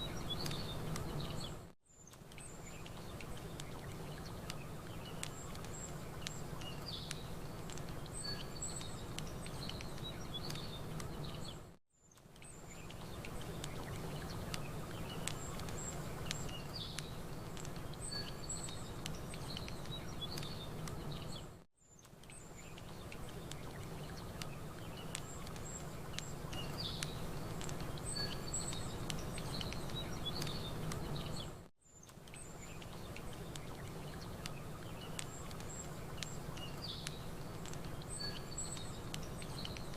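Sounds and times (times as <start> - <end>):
campfire crackling: 0.0 - 39.9
small birds chirping: 0.0 - 39.9.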